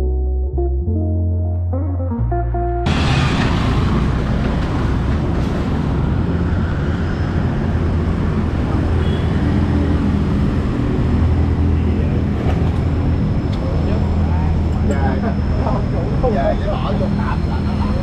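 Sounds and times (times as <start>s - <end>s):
traffic engine hum and road noise: 2.8s - 18.0s
motor scooters passing: 2.9s - 18.0s.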